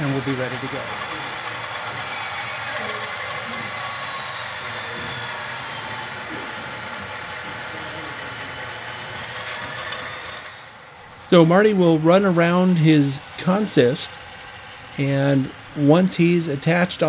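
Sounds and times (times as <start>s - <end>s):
model train running with high whine: 0.0s - 17.0s.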